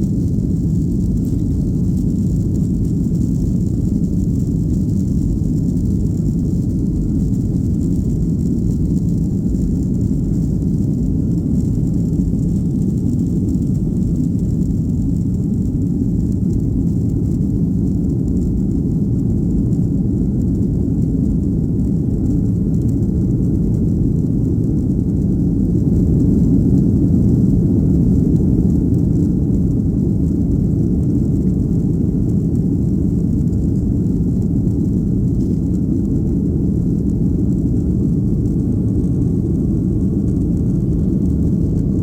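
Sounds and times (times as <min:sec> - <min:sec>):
airplane cabin engine rumble: 0:00.0 - 0:42.0.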